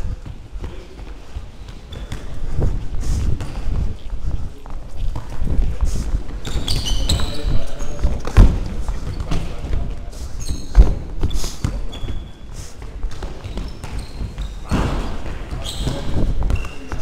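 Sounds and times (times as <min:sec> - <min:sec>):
trainers squeaking on floor: 0:00.0 - 0:04.1, 0:04.9 - 0:17.0
running footsteps: 0:00.0 - 0:17.0.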